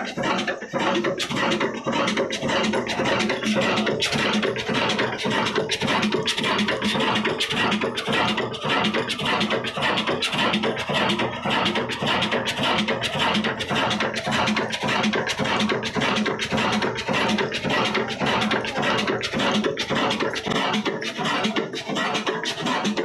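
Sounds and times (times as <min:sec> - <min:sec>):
diesel engine clattering: 0:00.0 - 0:23.0.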